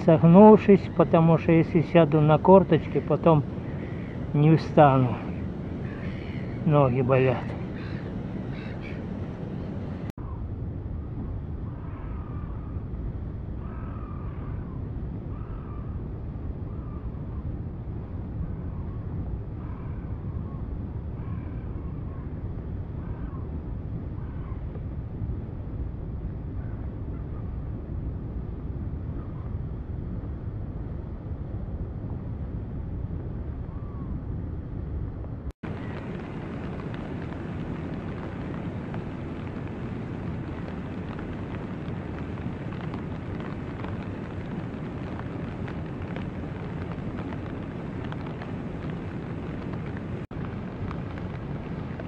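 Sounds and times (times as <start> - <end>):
low rumble by river: 0.0 - 52.0.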